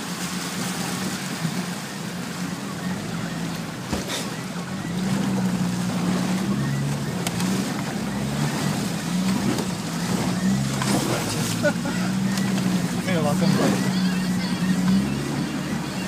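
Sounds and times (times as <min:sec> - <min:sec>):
vehicle engine running: 0:00.0 - 0:16.0
water splashing against vehicle: 0:00.0 - 0:16.0.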